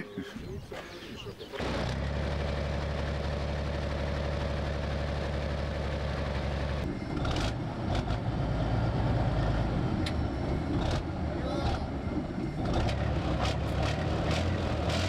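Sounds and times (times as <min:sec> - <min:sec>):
diesel engine idling: 0:01.0 - 0:15.0.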